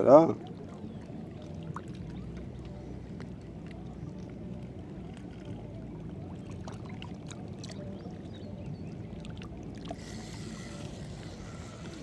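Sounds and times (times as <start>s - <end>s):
steady low rumble: 0.0s - 12.0s
water lapping against boat hull: 0.0s - 12.0s.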